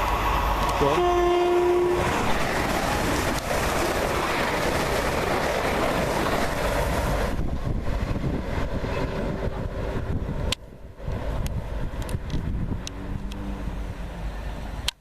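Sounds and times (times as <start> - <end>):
train rushing through station: 0.0 - 15.0.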